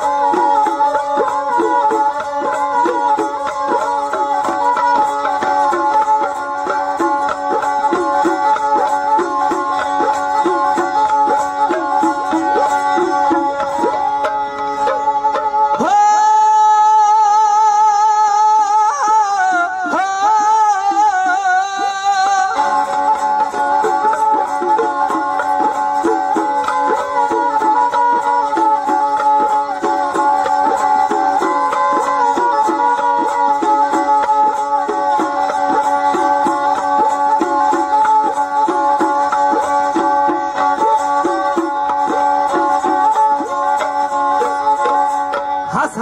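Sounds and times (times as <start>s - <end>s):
hand drums: 0.0s - 46.0s.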